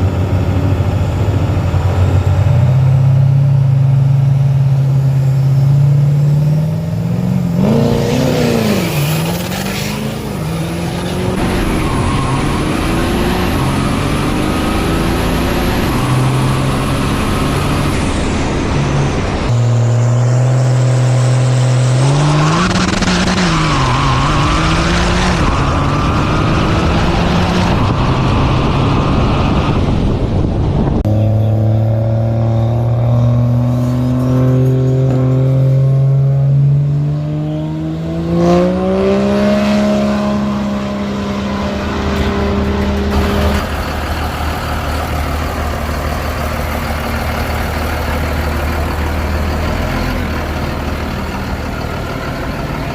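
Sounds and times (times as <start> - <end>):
diesel truck engines revving: 0.0 - 52.9.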